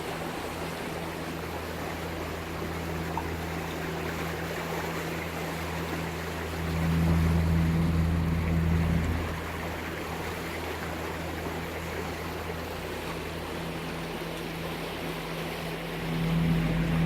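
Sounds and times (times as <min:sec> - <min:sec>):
boat diesel engines droning: 0:00.0 - 0:17.0
rushing water: 0:00.0 - 0:17.0
wind: 0:00.0 - 0:17.0.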